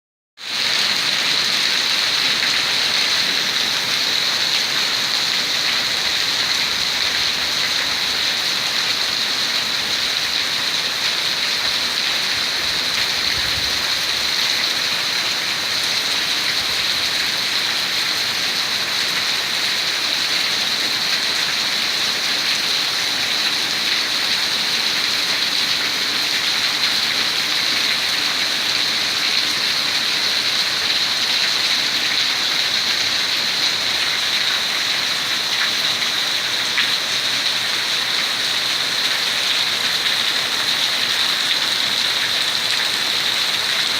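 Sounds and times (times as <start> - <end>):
heavy rain falling: 0.4 - 43.9.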